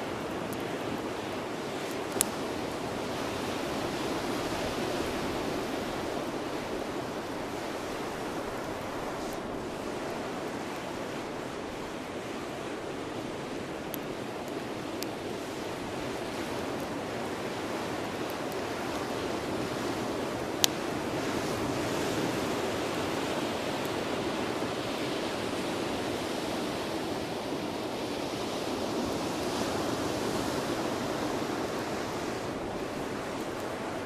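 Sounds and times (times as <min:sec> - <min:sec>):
bonfire wood popping: 0:00.0 - 0:25.9, 0:30.9 - 0:34.0.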